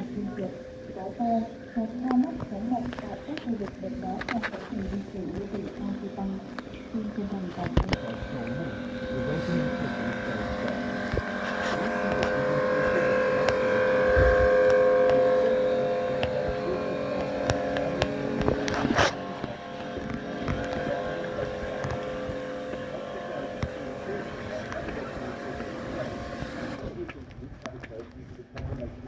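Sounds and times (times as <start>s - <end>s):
motor drone: 0.0s - 29.0s.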